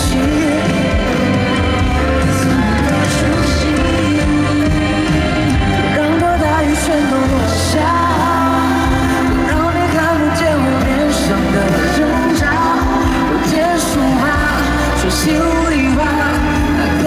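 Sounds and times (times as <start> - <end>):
live pop song with band: 0.0 - 17.0.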